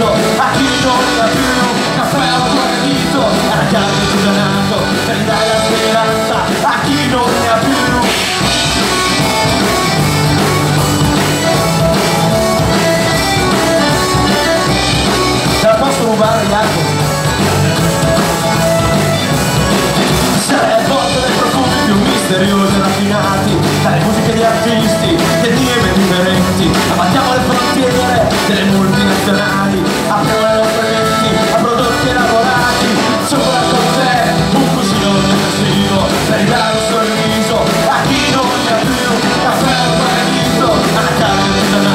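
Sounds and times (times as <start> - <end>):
live band: 0.0 - 41.9.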